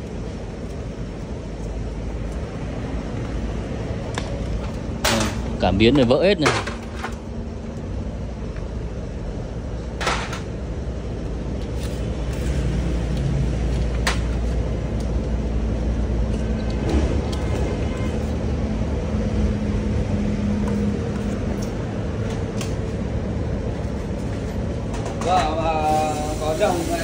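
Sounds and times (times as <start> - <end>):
low mechanical rumble: 0.0 - 27.0.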